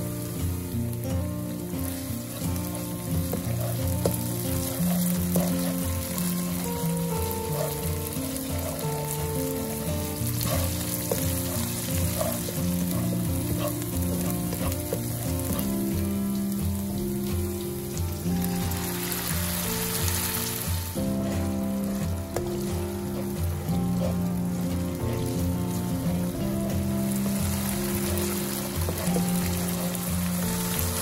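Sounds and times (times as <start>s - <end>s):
onion and paste sizzling in oil: 0.0s - 31.0s
soft background music: 0.0s - 31.0s.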